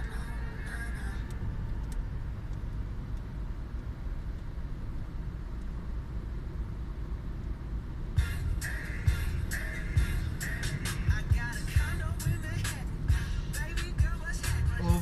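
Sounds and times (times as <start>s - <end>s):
road vehicle rumble: 0.0s - 15.0s.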